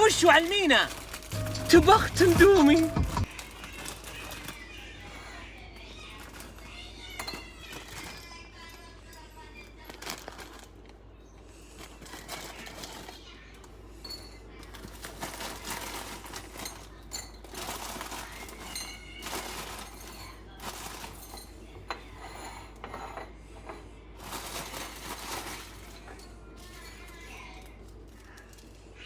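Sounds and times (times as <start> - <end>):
metal utensils clinking on cookware: 0.0 - 10.5, 11.9 - 28.4.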